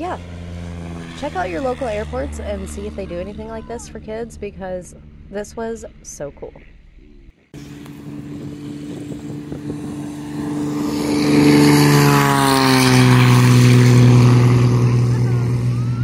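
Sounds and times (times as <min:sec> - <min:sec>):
propeller plane engine: 0:00.0 - 0:06.7, 0:07.3 - 0:16.0.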